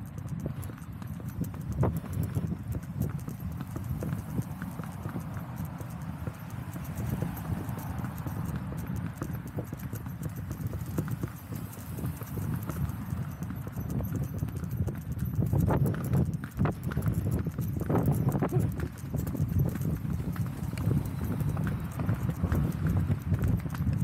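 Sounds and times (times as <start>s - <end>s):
horse hooves on asphalt: 0.0s - 24.0s.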